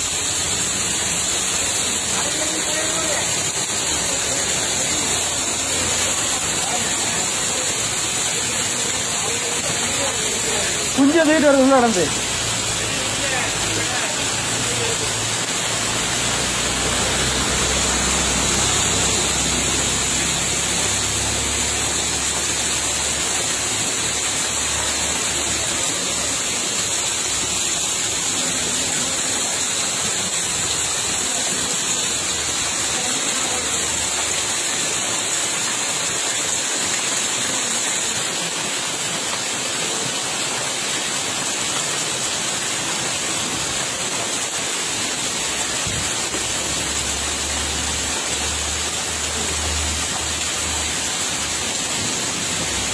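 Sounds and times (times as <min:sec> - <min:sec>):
floodwater rushing: 0:00.0 - 0:52.9
heavy rain: 0:00.0 - 0:52.9.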